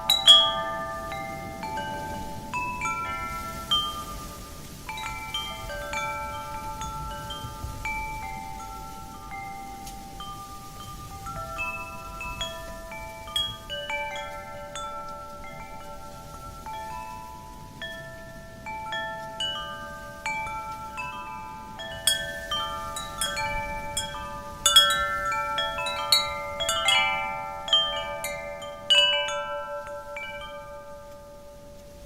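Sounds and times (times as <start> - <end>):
wind chimes ringing: 0.0 - 32.0.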